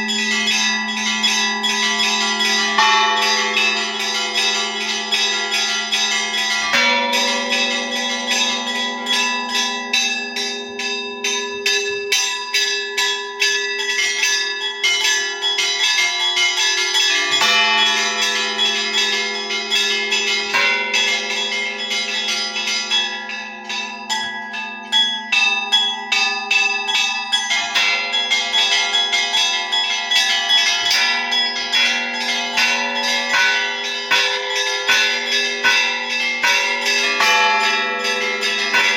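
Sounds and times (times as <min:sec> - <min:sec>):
deep bells humming: 0:00.0 - 0:38.9
small high bells striking rapidly: 0:00.0 - 0:38.9.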